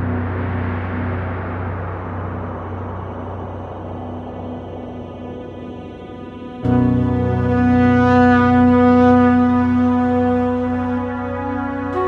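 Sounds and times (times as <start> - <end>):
sustained low instrumental chord: 0.0 - 12.0.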